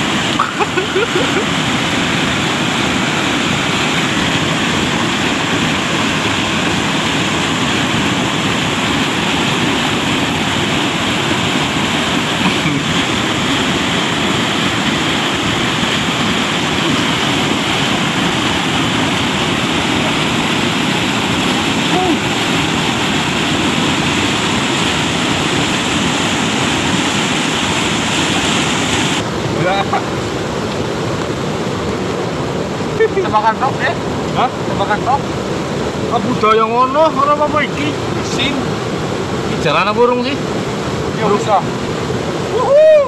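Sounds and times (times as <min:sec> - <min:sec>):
river water over boulders: 0:00.0 - 0:43.0.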